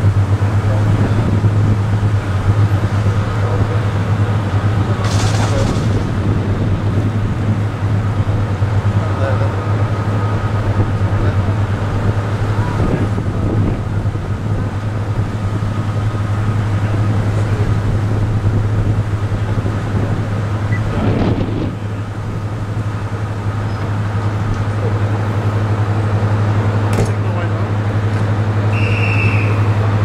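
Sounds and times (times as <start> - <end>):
diesel locomotive idling drone: 0.0 - 30.0.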